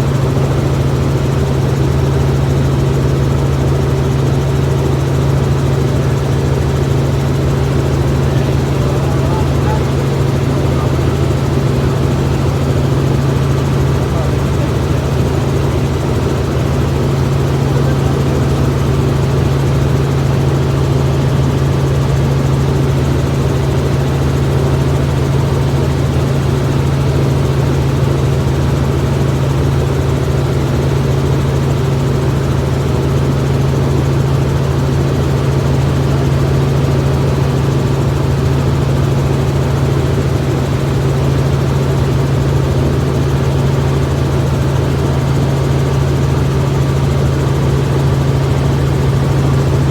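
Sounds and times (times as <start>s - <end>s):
helicopter engine and rotors: 0.0s - 49.9s.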